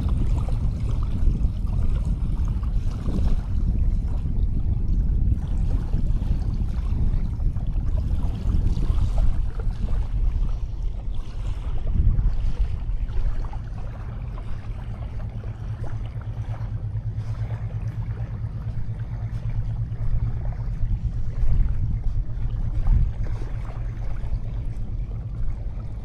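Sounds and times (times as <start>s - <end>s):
sea waves on a beach: 0.0s - 26.0s
wind rumbling on microphone: 0.0s - 26.0s.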